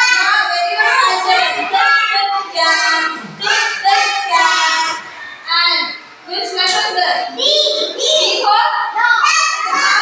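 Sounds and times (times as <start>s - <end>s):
children chanting: 0.0s - 5.4s, 6.7s - 10.0s.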